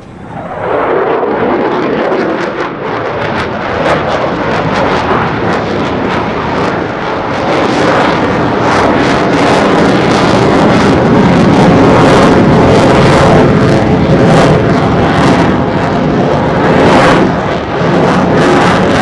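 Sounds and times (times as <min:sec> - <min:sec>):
jet fighter engines roaring: 0:00.0 - 0:19.0.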